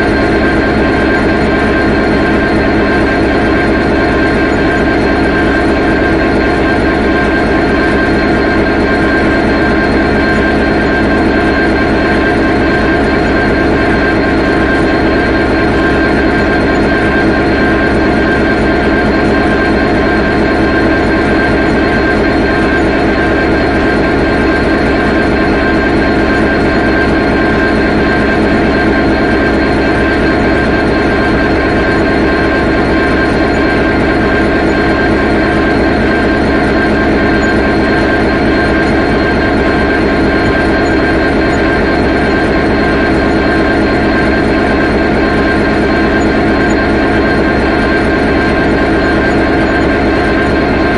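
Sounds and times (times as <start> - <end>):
diesel locomotive idling: 0.0 - 50.9.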